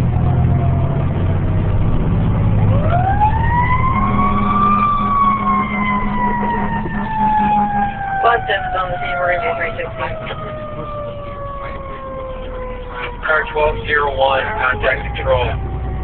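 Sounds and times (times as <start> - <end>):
diesel engine rumble: 0.0 - 16.0
fire engine siren: 0.0 - 16.0.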